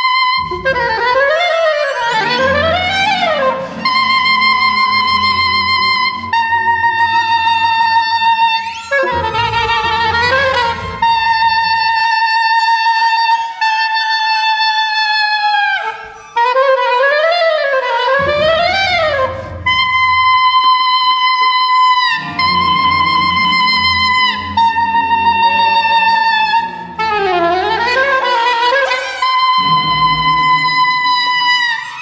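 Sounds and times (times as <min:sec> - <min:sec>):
soprano saxophone: 0:00.0 - 0:32.0
low bowed strings: 0:00.3 - 0:12.4, 0:18.0 - 0:32.0.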